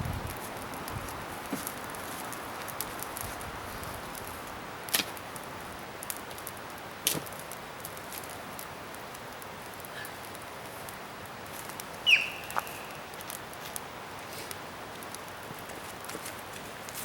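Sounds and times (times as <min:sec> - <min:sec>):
bonfire hissing and crackling: 0:00.0 - 0:17.0
loud sharp pops from fire: 0:00.0 - 0:17.0.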